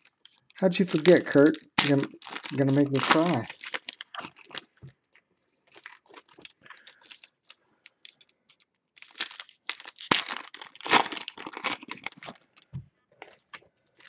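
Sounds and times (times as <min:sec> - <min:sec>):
foil wrapper crinkling and tearing: 0:00.0 - 0:05.1, 0:05.7 - 0:14.0.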